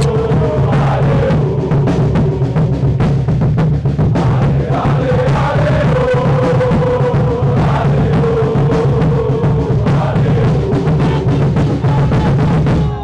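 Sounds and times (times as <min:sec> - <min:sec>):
heavy drums and percussion: 0:00.0 - 0:13.0.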